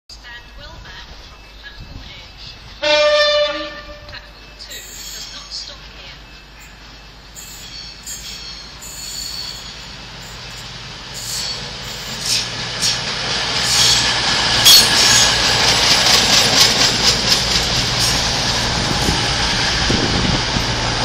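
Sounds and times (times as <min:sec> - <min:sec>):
train engine hum: 0:00.1 - 0:21.0
wheel-on-rail noise: 0:03.8 - 0:21.0.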